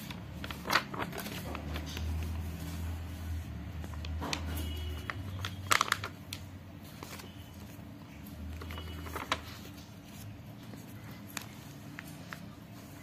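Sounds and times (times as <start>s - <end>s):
book pages rustling: 0.0s - 13.0s.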